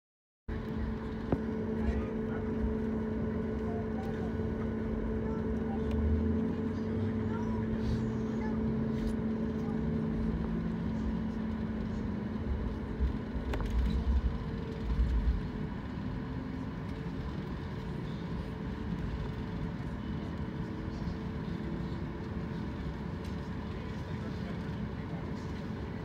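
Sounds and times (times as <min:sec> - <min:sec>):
aircraft cabin rumble: 0:00.5 - 0:26.0.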